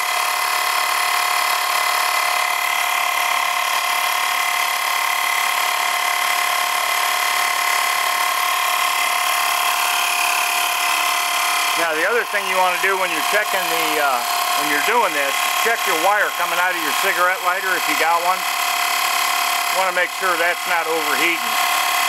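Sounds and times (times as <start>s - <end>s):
air compressor motor whine: 0.0s - 22.0s.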